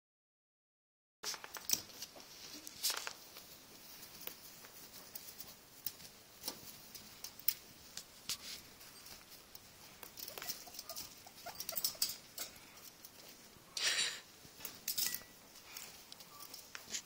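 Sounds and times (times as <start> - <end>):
guinea pigs scratching in shavings: 1.2 - 13.7, 15.5 - 17.0.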